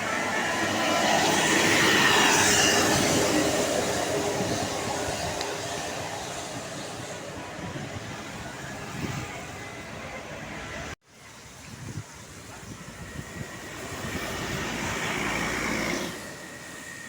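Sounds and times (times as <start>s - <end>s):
bus passing by: 0.0s - 11.0s, 12.6s - 17.0s.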